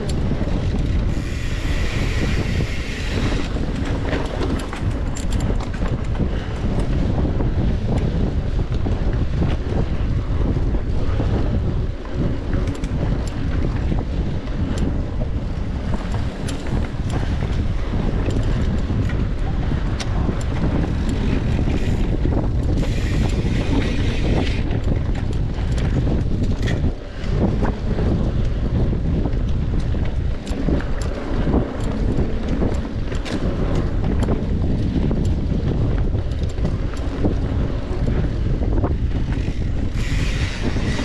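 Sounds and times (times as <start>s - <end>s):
bike clicks and rattles: 0.0s - 41.0s
wind buffeting microphone: 0.0s - 41.0s.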